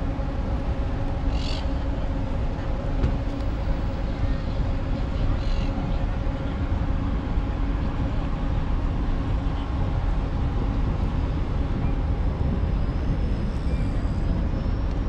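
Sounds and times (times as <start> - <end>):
city street rumble: 0.0 - 15.0
faint engine hum: 0.0 - 15.0.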